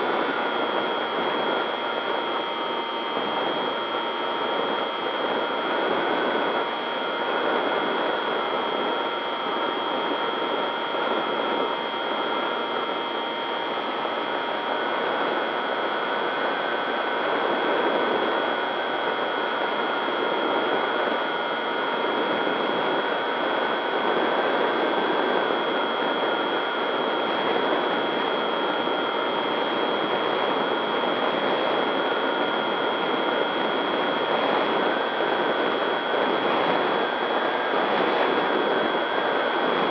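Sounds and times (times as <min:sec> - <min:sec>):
constant rush of noise: 0:00.0 - 0:39.9.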